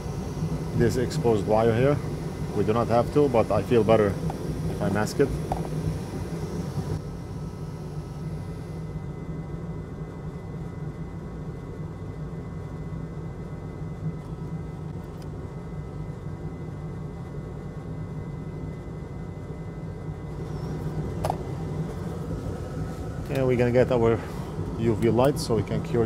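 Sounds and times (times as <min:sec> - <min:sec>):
faint constant tones: 0:00.0 - 0:26.0
machine hum and rumble: 0:00.0 - 0:26.0.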